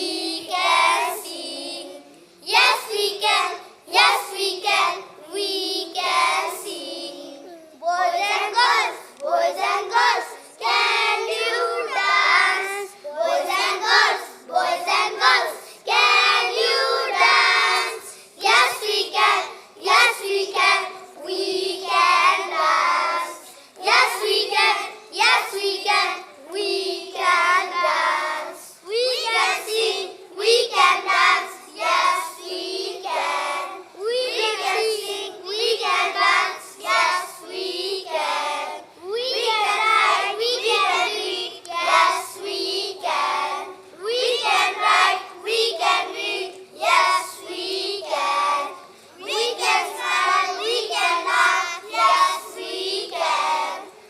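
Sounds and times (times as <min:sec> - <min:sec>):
children reciting in unison: 0:00.0 - 0:54.0.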